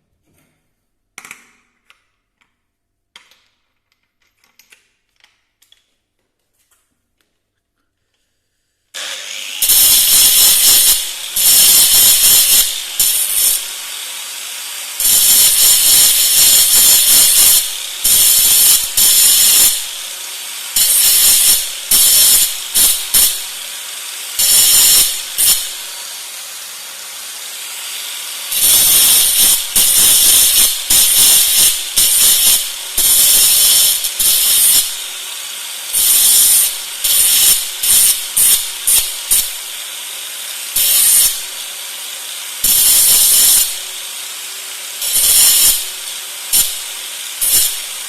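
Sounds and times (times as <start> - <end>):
power tool cutting metal: 9.0 - 48.0.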